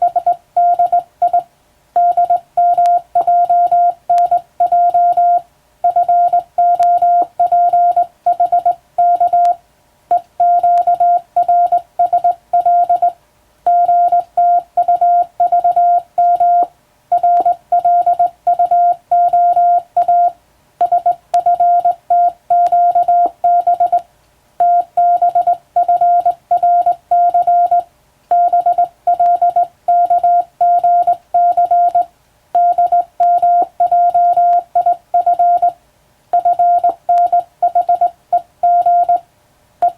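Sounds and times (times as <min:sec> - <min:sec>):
morse code beeping: 0:00.0 - 0:24.0, 0:24.6 - 0:35.8, 0:36.4 - 0:39.2.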